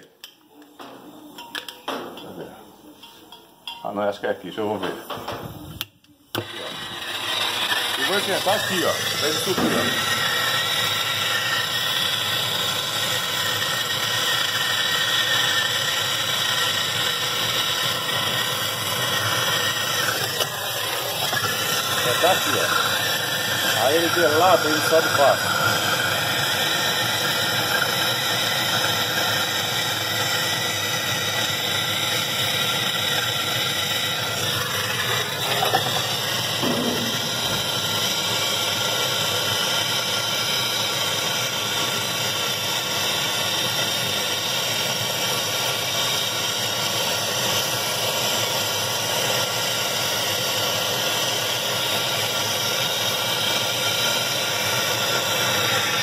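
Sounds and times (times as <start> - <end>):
blowtorch flame hissing: 5.0 - 56.0.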